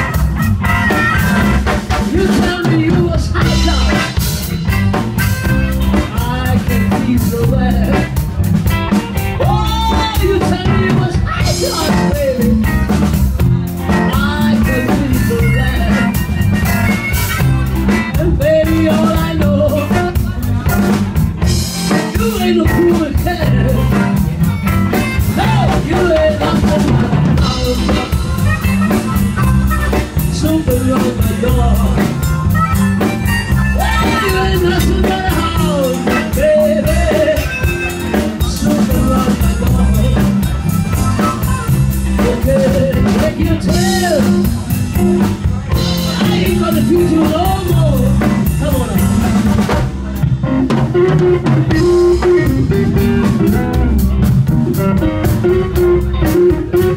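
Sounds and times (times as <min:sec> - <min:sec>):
blues band playing: 0:00.0 - 0:56.9
drum kit: 0:00.0 - 0:56.9.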